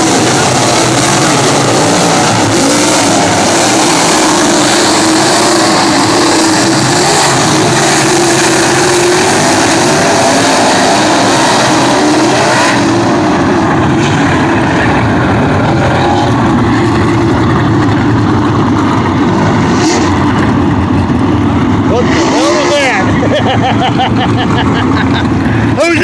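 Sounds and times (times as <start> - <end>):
racing car engines: 0.0 - 26.0.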